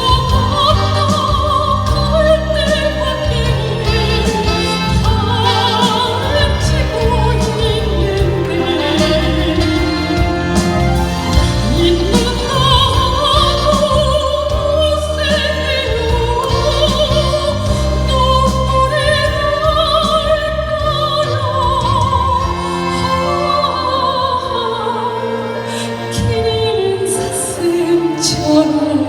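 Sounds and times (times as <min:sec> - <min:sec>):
instrumental accompaniment: 0:00.0 - 0:29.0
soprano operatic singing: 0:00.0 - 0:29.0.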